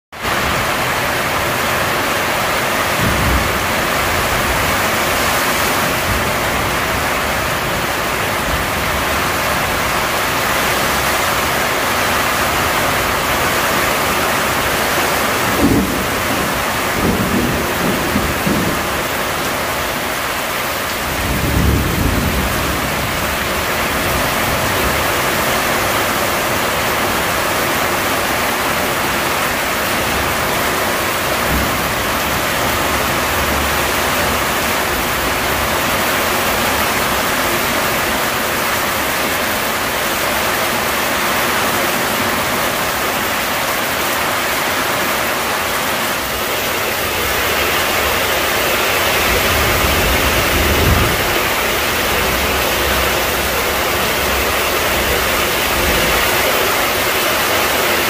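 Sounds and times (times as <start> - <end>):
heavy rain falling: 0.1 - 58.0
thunder rumbling: 0.3 - 57.8.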